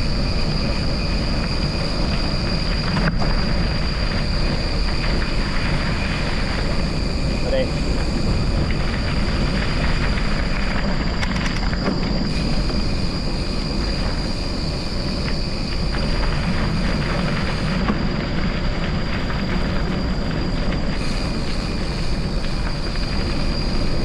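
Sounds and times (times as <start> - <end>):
road noise off-road: 0.0 - 24.0
wind buffeting microphone: 0.0 - 24.0.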